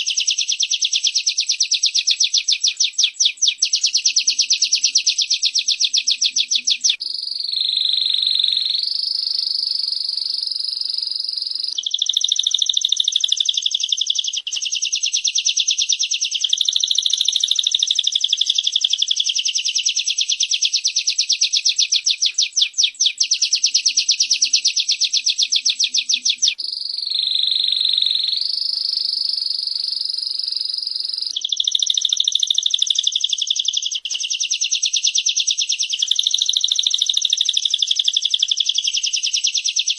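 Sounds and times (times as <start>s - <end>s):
bird rattling trill: 0.0s - 20.5s, 21.2s - 39.9s
smooth birdsong: 0.0s - 39.9s.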